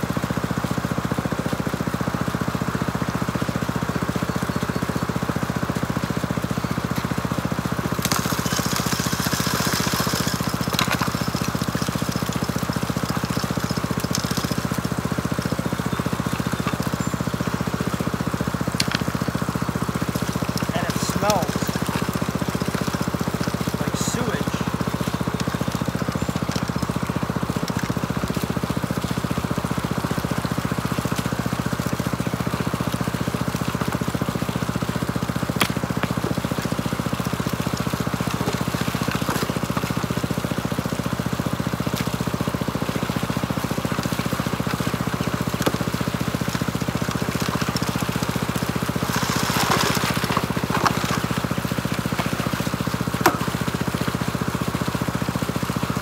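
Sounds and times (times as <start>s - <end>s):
engine-driven water pump running: 0.0s - 56.0s
water rushing: 7.8s - 56.0s.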